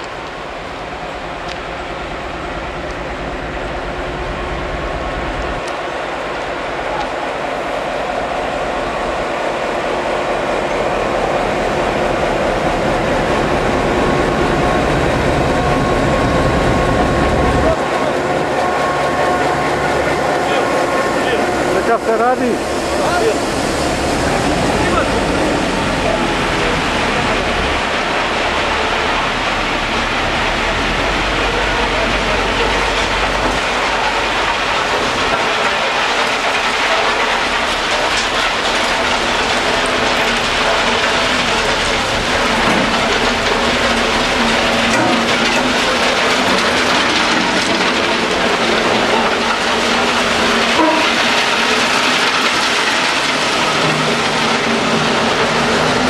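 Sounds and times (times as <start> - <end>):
diesel locomotive engine: 0.0 - 56.0
train rolling past: 0.0 - 56.0.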